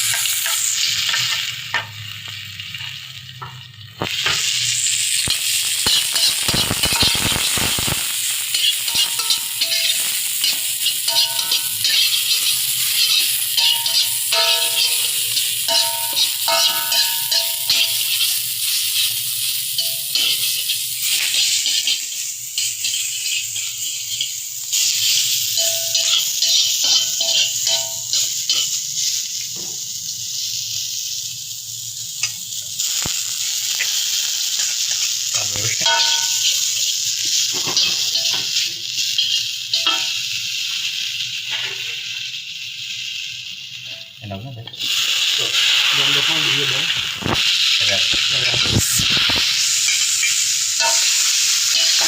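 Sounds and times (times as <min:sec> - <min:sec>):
rice sizzling in hot oil: 0:00.0 - 0:52.0.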